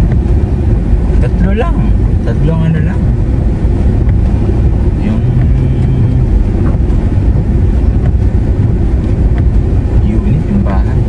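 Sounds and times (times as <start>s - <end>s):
car engine rumble: 0.0s - 11.0s
tyres on wet street: 0.0s - 11.0s.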